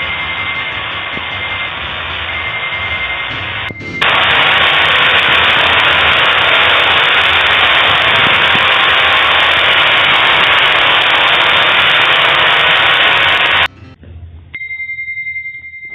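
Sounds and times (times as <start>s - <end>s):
loud electronic static noise: 0.0s - 14.0s.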